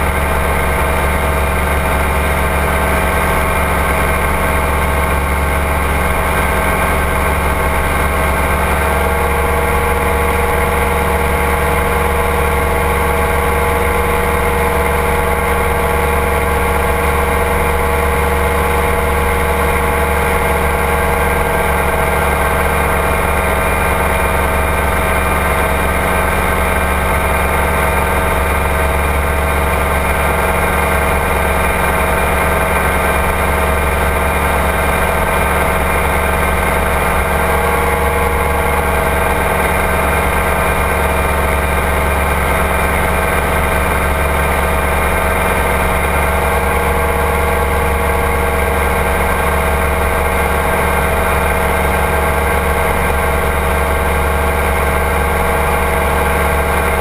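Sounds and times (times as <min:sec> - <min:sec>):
ultralight engine and propeller drone: 0:00.0 - 0:57.0.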